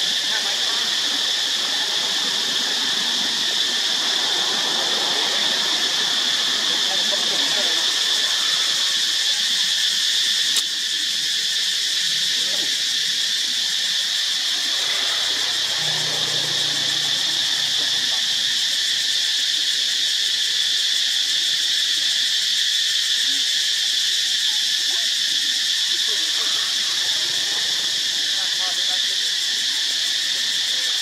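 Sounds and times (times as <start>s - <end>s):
high-pitched insect chorus drone: 0.0s - 31.0s.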